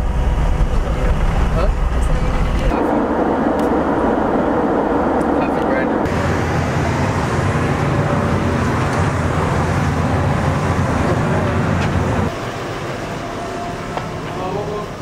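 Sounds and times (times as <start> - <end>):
airport apron rumble: 0.0 - 15.0.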